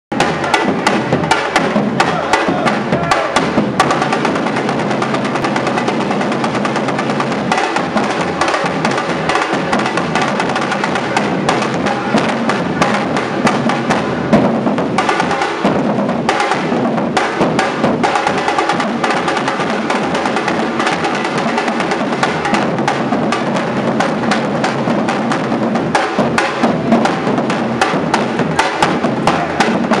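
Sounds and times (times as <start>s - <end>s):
bass drums beaten with mallets: 0.1s - 30.0s.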